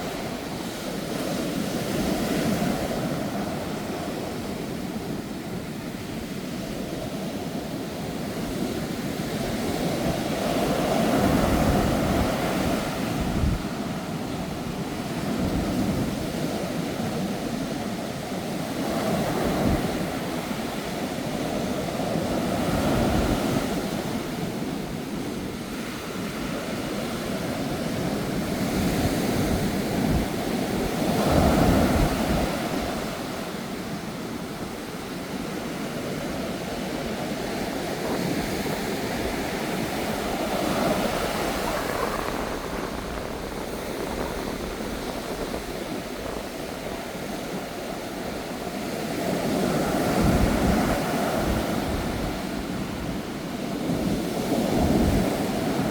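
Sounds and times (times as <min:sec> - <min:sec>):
sea waves breaking on shore: 0:00.0 - 0:55.9
wind buffeting microphone: 0:00.0 - 0:55.9.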